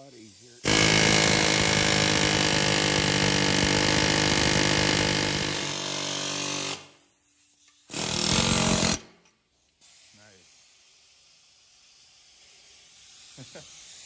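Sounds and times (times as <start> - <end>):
pneumatic air tool running: 0.0 - 9.1, 9.7 - 14.0.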